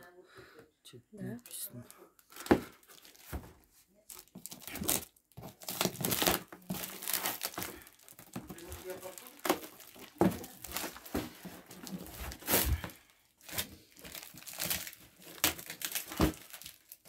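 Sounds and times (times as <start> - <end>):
plastic film crinkling and tearing: 1.4 - 17.0.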